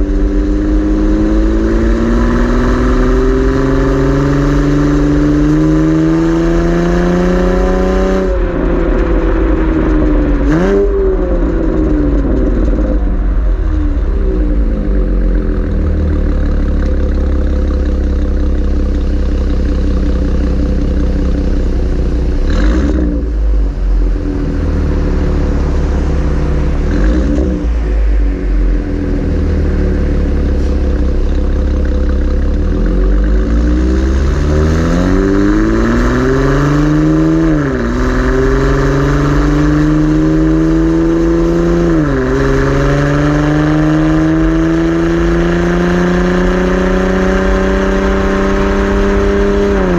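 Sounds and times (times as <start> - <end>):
car exhaust drone and acceleration: 0.0 - 49.9.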